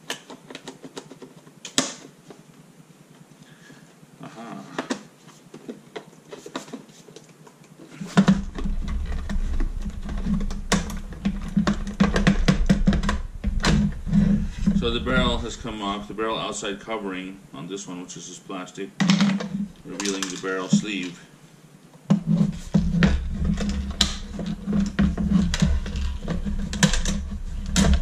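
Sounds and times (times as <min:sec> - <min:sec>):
plastic parts clicking and scraping: 0:00.0 - 0:02.5, 0:04.6 - 0:16.6, 0:19.0 - 0:21.2, 0:22.1 - 0:28.0
steady low hum: 0:02.2 - 0:28.0.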